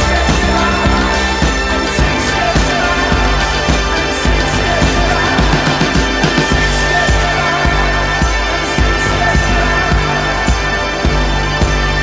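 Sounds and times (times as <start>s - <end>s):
soundtrack music with bass beat: 0.0s - 12.0s.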